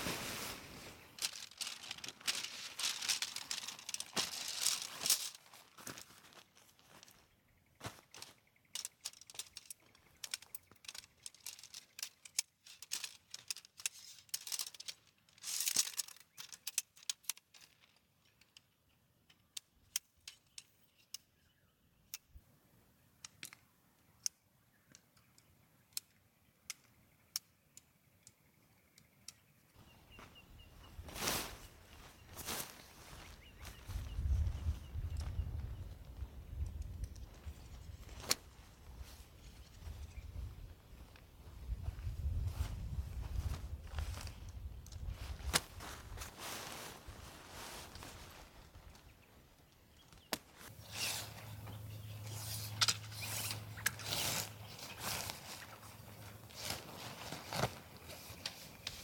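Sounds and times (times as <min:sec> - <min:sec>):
gear rustling and crinkling: 0:00.0 - 0:18.7, 0:29.8 - 0:59.0.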